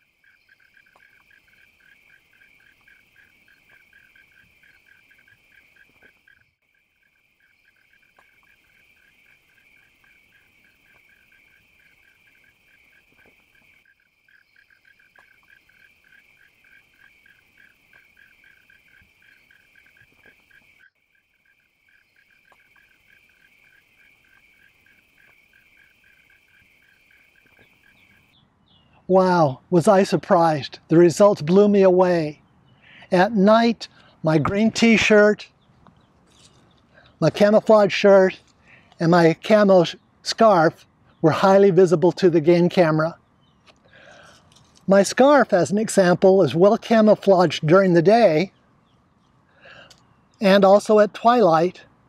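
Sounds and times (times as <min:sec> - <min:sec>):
frogs and insects trilling: 0:00.0 - 0:52.0.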